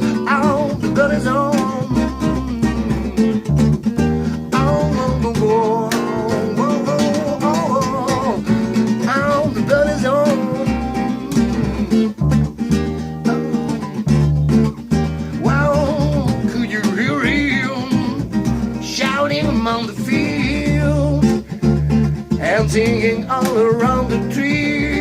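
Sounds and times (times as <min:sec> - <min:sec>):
acoustic guitar strumming with melody: 0:00.0 - 0:25.0.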